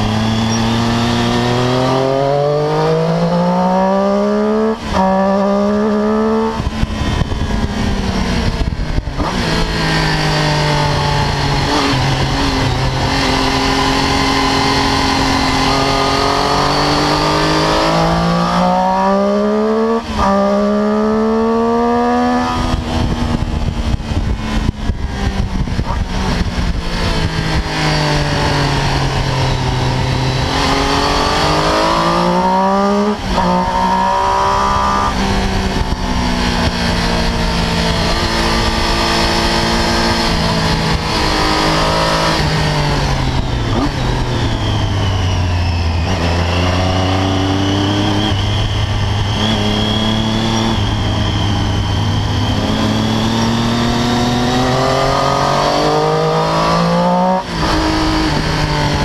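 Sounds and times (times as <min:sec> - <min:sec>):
motorcycle engine accelerating: 0:00.0 - 0:59.0
wind on microphone: 0:00.0 - 0:59.0.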